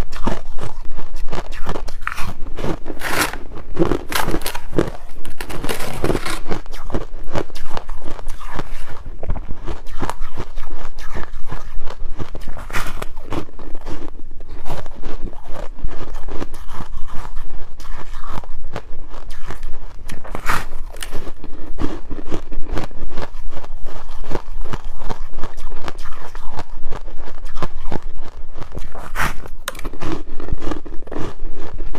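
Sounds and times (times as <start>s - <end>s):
ice being chewed: 0.0s - 31.9s.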